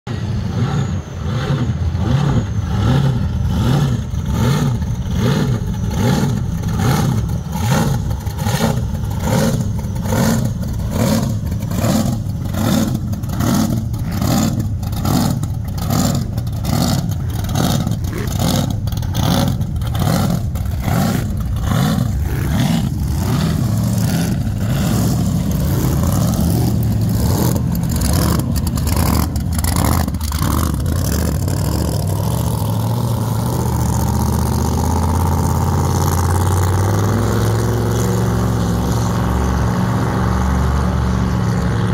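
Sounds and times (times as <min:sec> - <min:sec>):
loping engines rumbling: 0:00.1 - 0:41.9.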